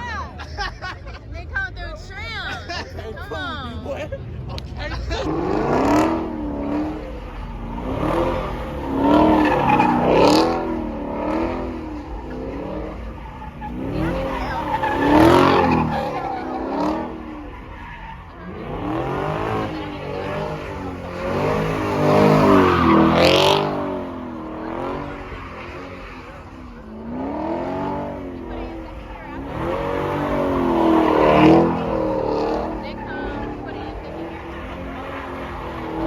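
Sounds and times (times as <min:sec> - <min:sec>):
car engine revving: 0:00.0 - 0:36.0
tires squealing: 0:00.0 - 0:36.0.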